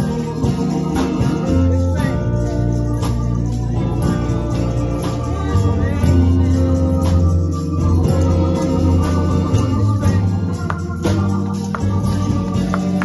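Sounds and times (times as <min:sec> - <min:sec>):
electric organ gospel music: 0:00.0 - 0:13.0
person singing: 0:00.0 - 0:13.0
sharp percussion hits: 0:00.0 - 0:13.0.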